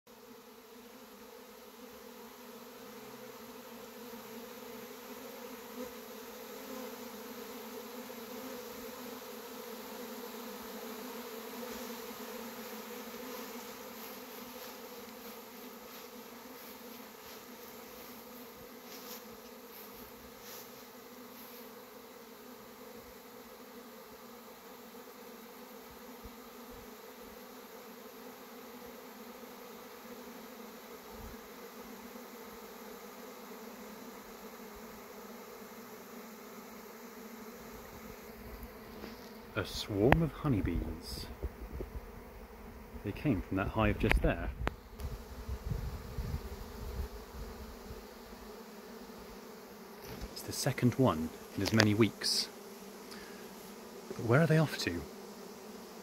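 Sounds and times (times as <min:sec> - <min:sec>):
swarm of bees droning: 0:00.1 - 0:56.0.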